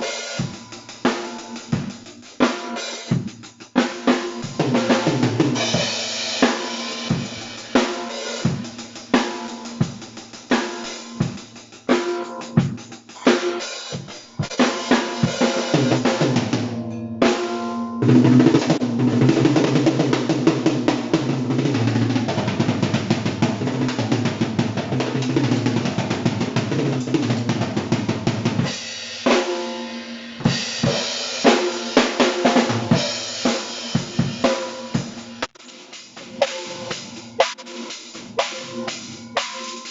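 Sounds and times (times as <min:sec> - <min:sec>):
drum kit playing: 0:00.0 - 0:39.9
fast drum roll: 0:00.0 - 0:39.9.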